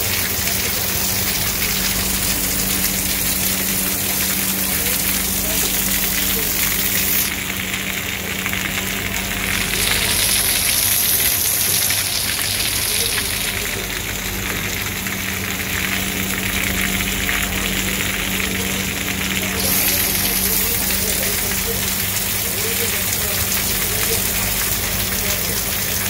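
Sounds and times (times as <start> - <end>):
heavy rain on concrete: 0.0 - 26.0
runoff pouring and splashing: 0.0 - 26.0.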